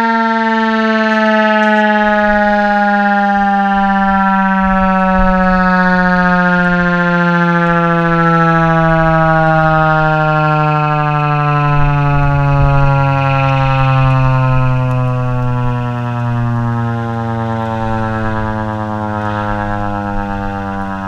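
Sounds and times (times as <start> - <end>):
descending siren wail: 0.0 - 21.0.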